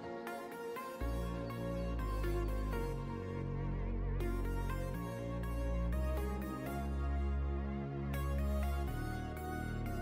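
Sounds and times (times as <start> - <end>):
electronic music with bass: 0.0 - 10.0.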